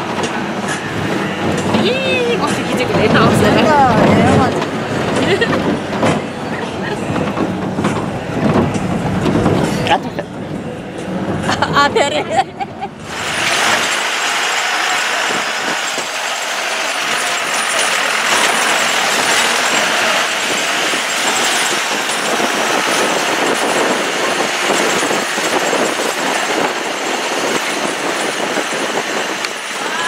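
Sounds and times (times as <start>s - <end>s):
knocks and rattles: 0.0s - 9.7s, 13.0s - 30.0s
vehicle driving on rough road: 0.0s - 30.0s.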